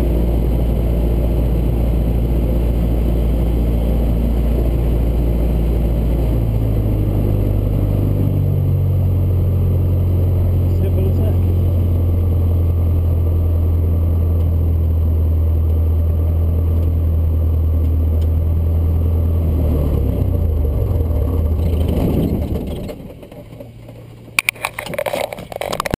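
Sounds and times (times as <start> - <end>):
piston engine droning: 0.0 - 26.0.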